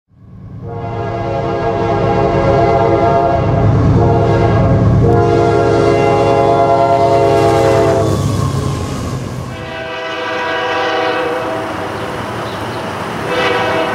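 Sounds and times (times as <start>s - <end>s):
train rumbling: 0.1s - 13.9s
locomotive air horn: 0.6s - 12.1s, 13.2s - 13.9s.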